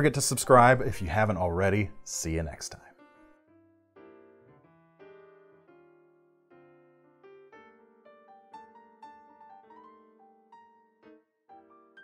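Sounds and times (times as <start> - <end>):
quiet piano music: 0.0 - 12.0.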